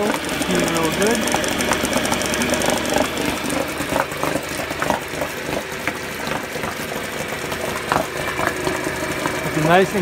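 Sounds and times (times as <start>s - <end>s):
outboard motor churning water: 0.0s - 10.0s.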